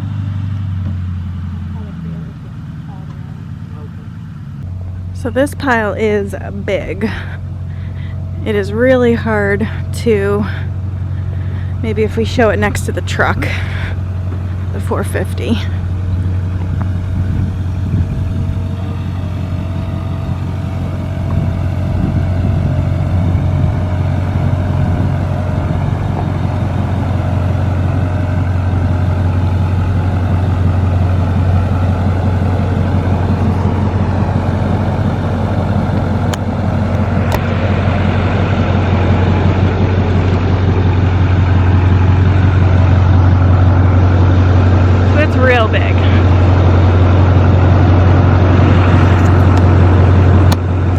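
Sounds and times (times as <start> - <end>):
truck engine droning: 0.0 - 50.9.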